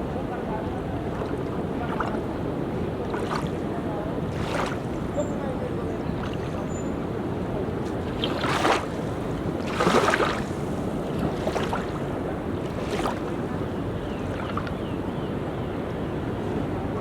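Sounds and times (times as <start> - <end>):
sea waves splashing on beach: 0.0 - 15.1
wind rumbling on microphone: 0.0 - 17.0.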